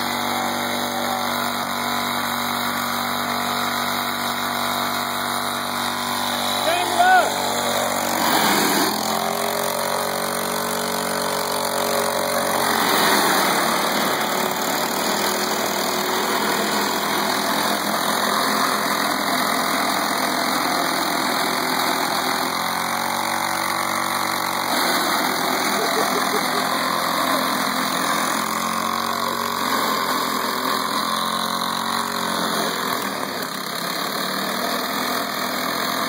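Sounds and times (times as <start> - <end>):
small mower engine idling: 0.0 - 36.0.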